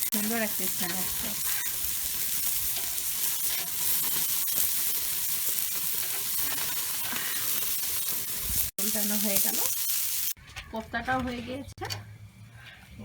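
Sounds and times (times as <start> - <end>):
kebabs sizzling in oil: 0.0 - 11.8.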